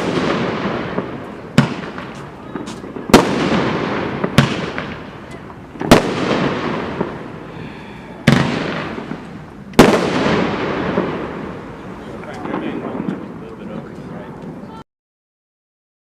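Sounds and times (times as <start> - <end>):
firework bangs: 0.0 - 14.8
firework crackle: 0.0 - 14.8.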